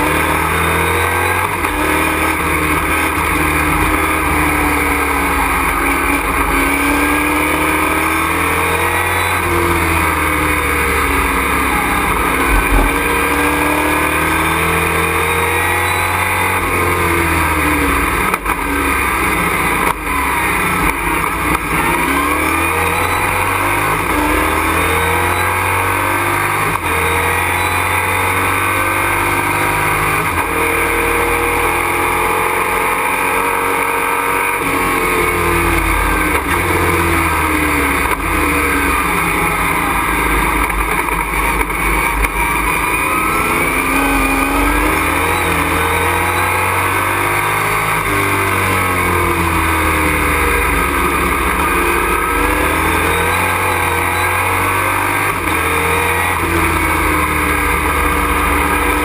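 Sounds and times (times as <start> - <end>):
racing engine revving: 0.0 - 59.0
road and wind noise: 0.0 - 59.0.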